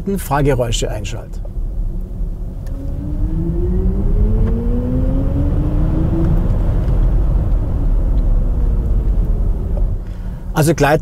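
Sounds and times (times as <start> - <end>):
low road noise rumble: 0.0 - 11.0.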